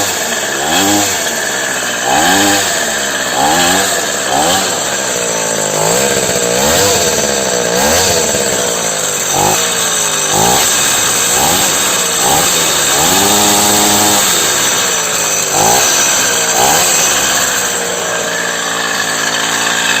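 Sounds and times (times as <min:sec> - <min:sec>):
moped engine revving: 0:00.0 - 0:20.0.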